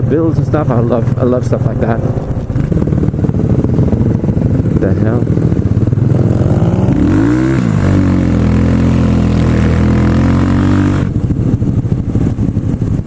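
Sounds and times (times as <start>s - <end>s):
vehicle engine drone: 0.0s - 13.0s.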